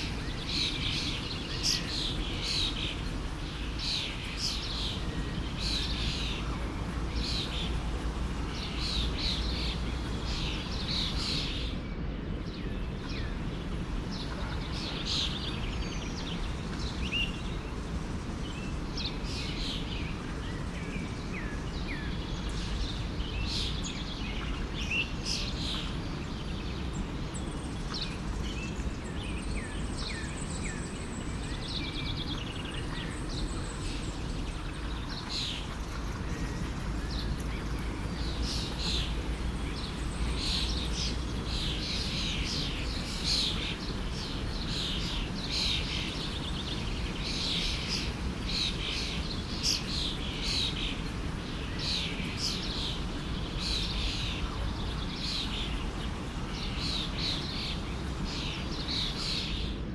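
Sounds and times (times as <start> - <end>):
songbirds chirping: 0.0 - 59.9
stream flowing: 2.3 - 11.6, 12.8 - 30.0, 30.7 - 59.5.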